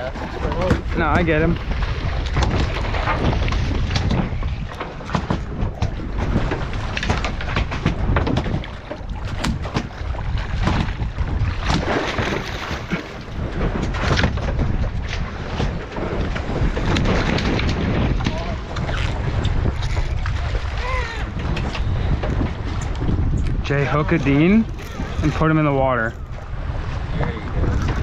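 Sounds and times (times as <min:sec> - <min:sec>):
water washing against boat hull: 0:00.0 - 0:28.0
wind buffeting microphone: 0:00.0 - 0:28.0.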